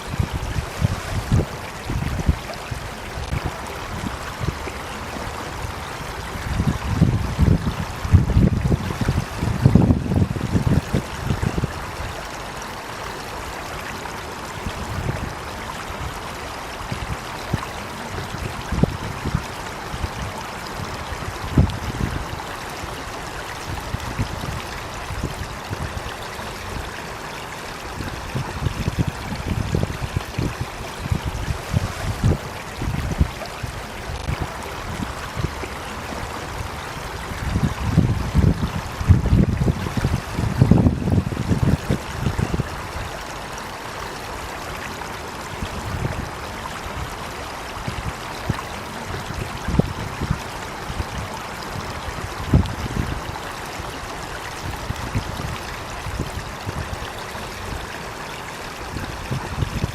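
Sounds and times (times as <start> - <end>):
flowing water hiss: 0.0 - 59.9.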